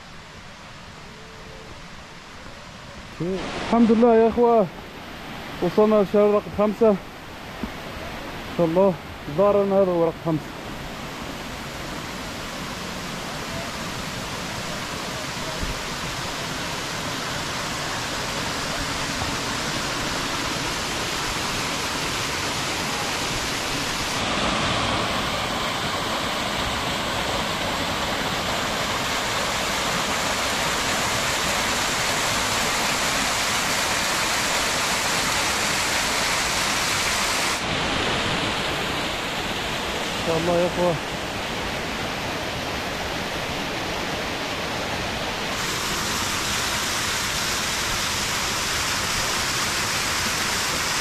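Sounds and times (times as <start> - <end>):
waterfall rushing: 0.1 - 51.0.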